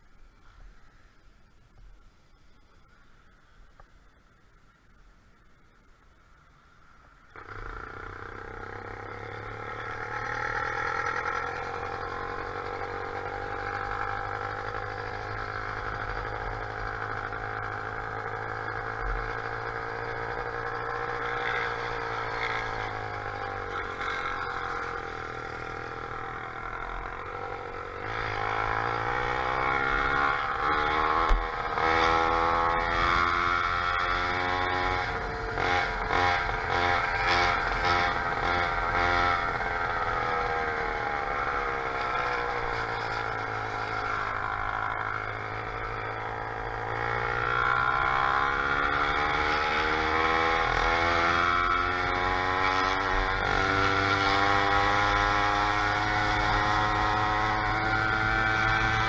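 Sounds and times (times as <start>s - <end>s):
small bicycle engine running: 7.4s - 59.0s.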